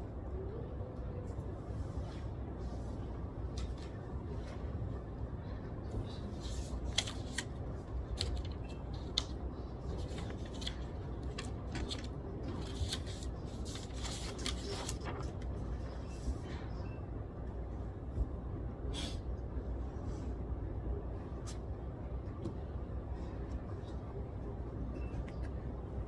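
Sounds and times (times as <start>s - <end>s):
room hum: 0.0s - 26.0s.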